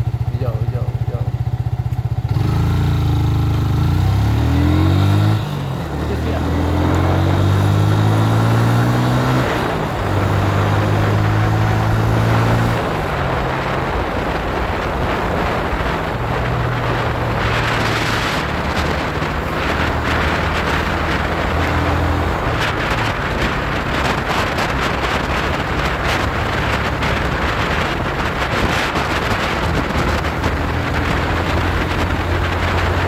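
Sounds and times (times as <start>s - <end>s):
vehicle engine running: 0.0s - 33.0s
wind rushing over microphone: 0.0s - 33.0s.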